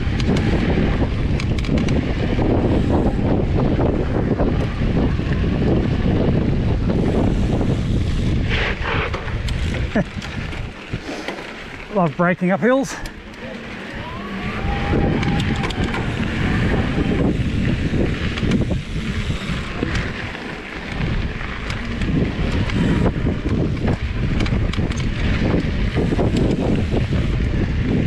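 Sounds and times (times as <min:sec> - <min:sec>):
bike clicks and rattles: 0:00.0 - 0:28.0
bike tyres rolling on dirt: 0:00.0 - 0:28.0
wind buffeting camera microphone: 0:00.0 - 0:28.0.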